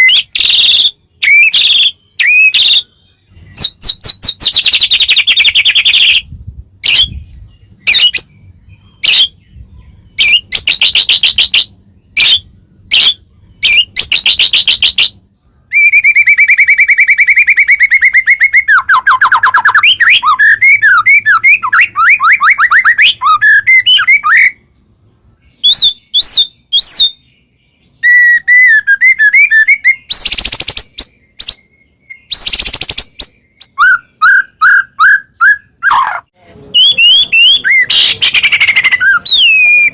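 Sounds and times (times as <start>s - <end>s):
songbird trills and whistles: 0.0s - 24.6s, 25.4s - 39.9s.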